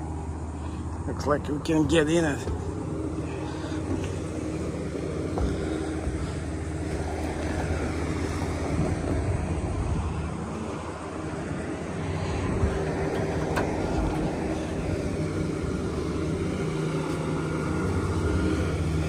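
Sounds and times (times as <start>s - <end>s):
wind buffeting microphone: 1.8s - 19.0s.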